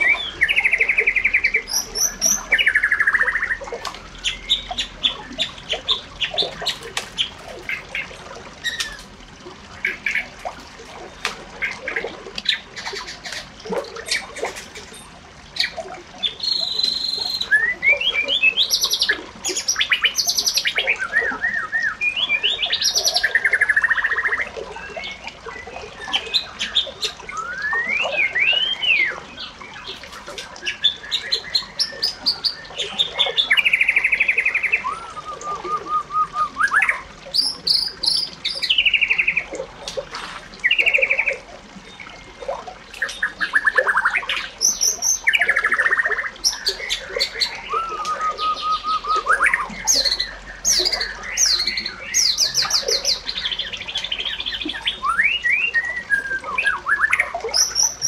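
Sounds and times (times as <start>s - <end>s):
birds chirping and singing: 0.0s - 9.1s, 11.1s - 39.5s, 43.0s - 58.0s.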